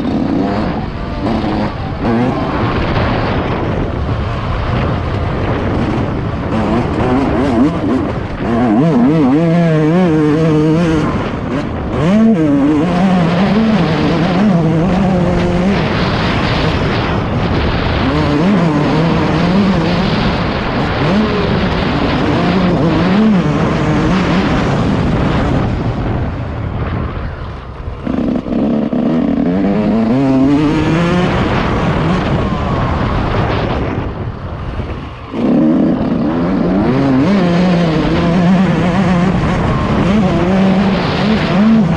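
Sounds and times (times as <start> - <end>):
motocross engine revving: 0.0 - 26.2, 27.9 - 34.1, 34.8 - 41.9.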